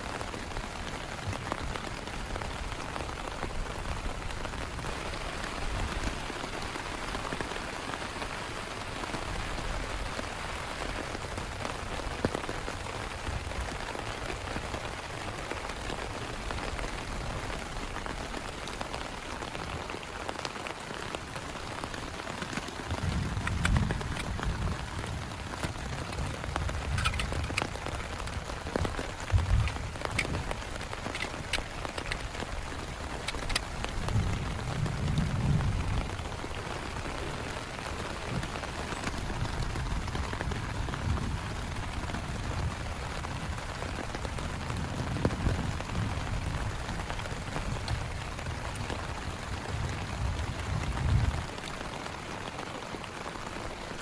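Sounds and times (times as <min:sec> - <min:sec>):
heavy rain falling: 0:00.0 - 0:54.0
rain drops hitting close by: 0:00.0 - 0:54.0.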